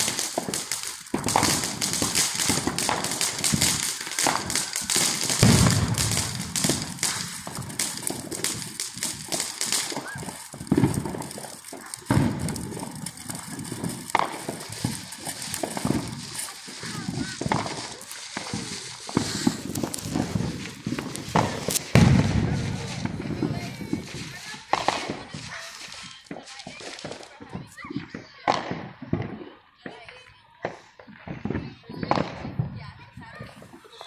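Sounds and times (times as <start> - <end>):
firework hissing and crackling: 0.0 - 34.0
rapid firework pops: 0.0 - 34.0.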